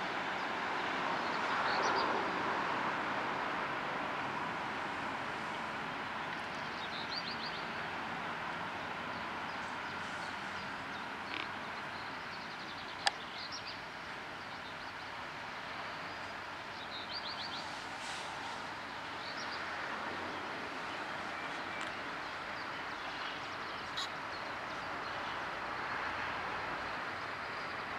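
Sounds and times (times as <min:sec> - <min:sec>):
rail yard background noise: 0:00.0 - 0:27.9.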